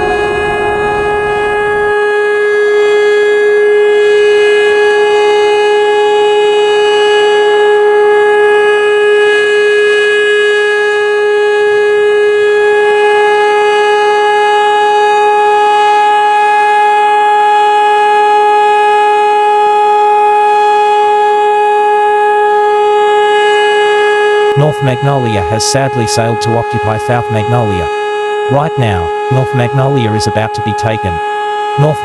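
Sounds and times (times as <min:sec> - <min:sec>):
siren steady tone: 0:00.0 - 0:32.0.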